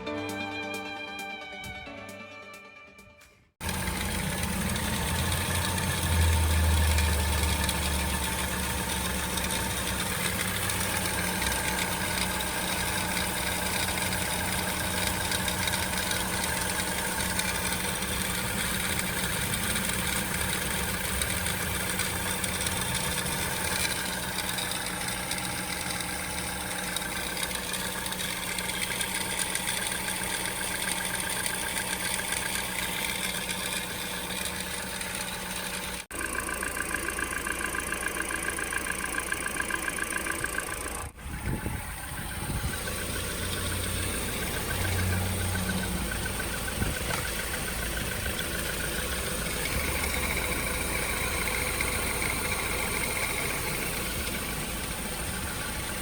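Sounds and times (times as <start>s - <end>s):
car engine idling: 3.6s - 56.0s.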